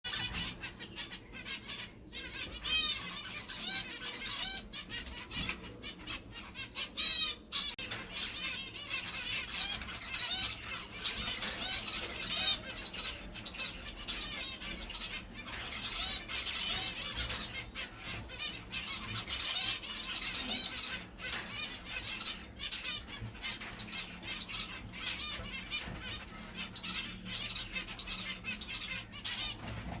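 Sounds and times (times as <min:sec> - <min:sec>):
finches chirping: 0:00.1 - 0:30.0.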